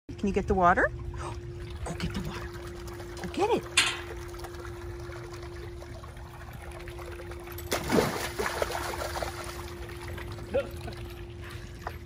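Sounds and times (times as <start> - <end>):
water trickling and bubbling: 0.9 - 12.0
puppy splashing through water: 1.4 - 12.0.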